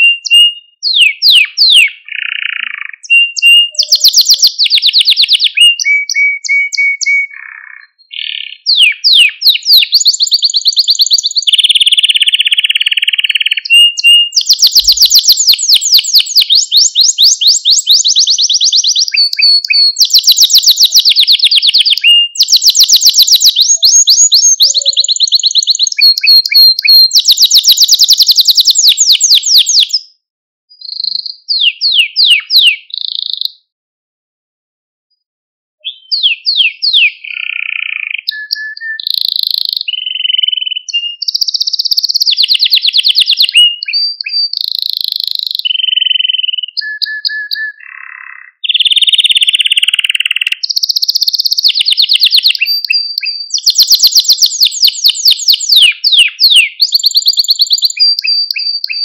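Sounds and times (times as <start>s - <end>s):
canary singing trills: 0.0s - 33.7s, 35.8s - 59.0s.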